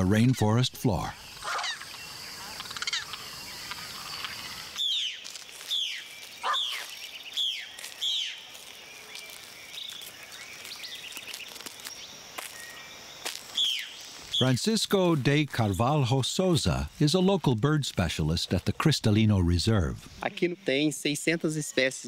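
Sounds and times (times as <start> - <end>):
rainforest insects and birds: 0.0 - 22.0.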